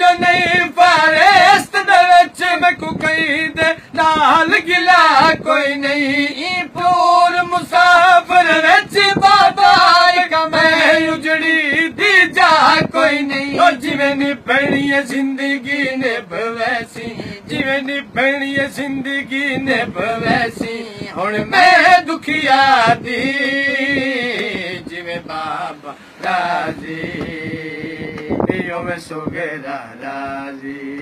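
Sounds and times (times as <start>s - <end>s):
men chanting unaccompanied: 0.0s - 31.0s.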